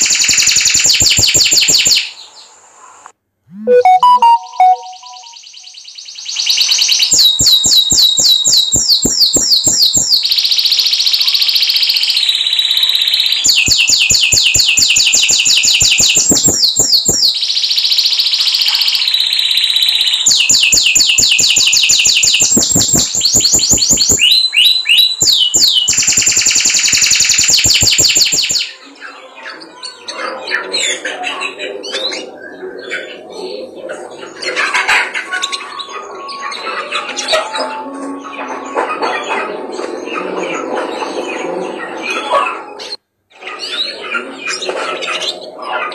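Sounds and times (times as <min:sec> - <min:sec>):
canary singing trills: 0:03.5 - 0:45.9.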